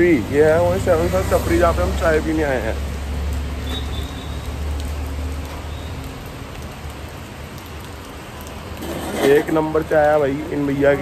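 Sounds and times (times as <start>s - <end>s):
light rain hissing: 0.0s - 11.0s.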